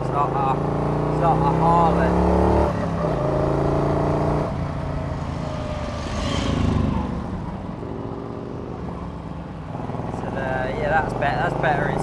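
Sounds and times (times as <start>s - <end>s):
car engine at speed: 0.0s - 12.0s.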